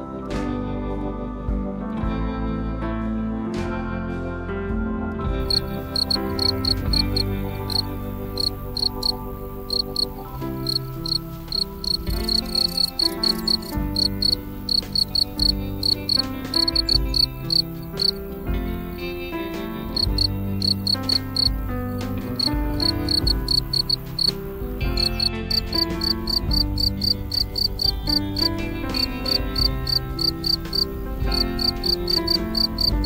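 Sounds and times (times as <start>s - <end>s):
instrumental music: 5.3s - 33.0s
cricket chirping: 5.4s - 33.0s.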